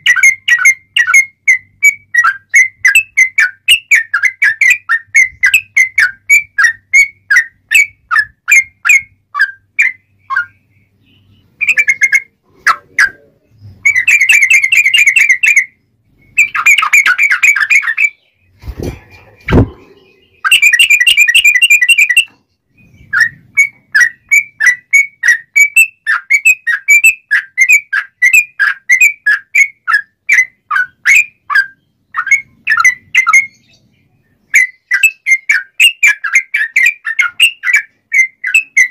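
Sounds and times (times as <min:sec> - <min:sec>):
bird chattering trills: 0:00.0 - 0:38.9
bird chirping: 0:00.0 - 0:38.9.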